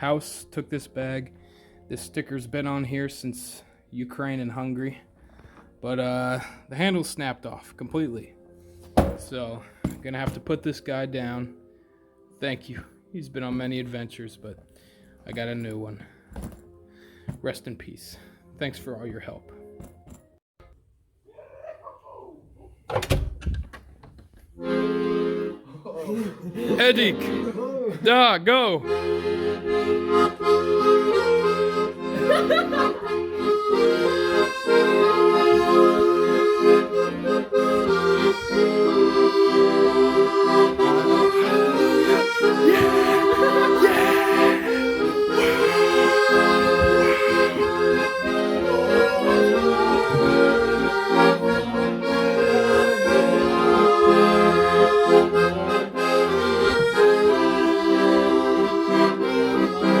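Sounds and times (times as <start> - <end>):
accordion folk melody: 0.0 - 20.2, 24.4 - 60.0.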